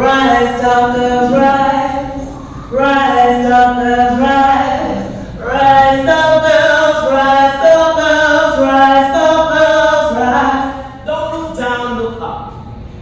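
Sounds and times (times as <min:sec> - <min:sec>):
woman singing a cappella: 0:00.0 - 0:12.5.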